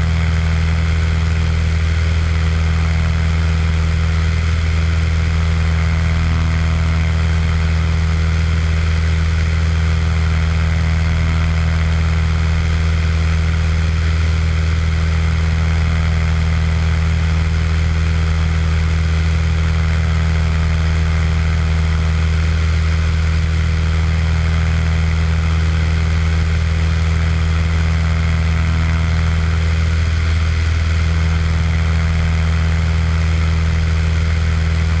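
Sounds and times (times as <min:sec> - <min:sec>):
propeller plane engine drone: 0:00.0 - 0:35.0.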